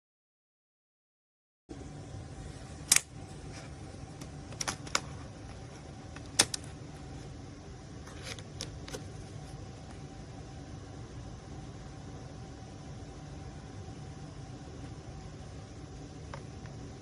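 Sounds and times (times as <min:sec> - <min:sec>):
steady low hum: 0:01.7 - 0:17.0.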